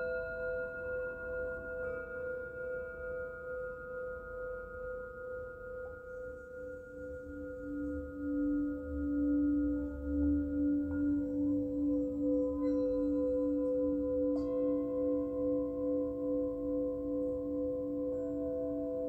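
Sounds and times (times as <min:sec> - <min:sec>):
low singing bowl tone: 0:00.0 - 0:19.0
singing bowls ringing: 0:00.0 - 0:19.0.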